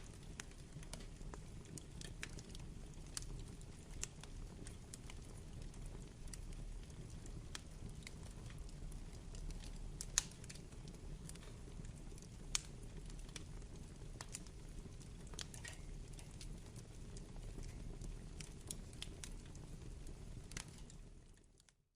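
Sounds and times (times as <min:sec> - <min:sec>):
wood fire crackling and popping: 0:00.0 - 0:21.8.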